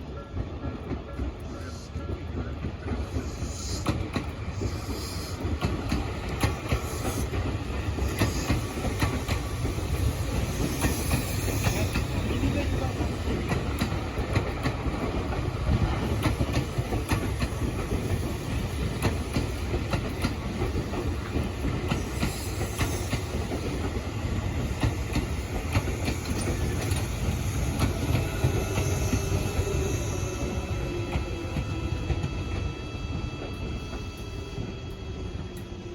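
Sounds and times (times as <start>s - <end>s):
train rumbling: 0.0s - 35.9s
train wheels clickety-clack: 0.0s - 35.9s.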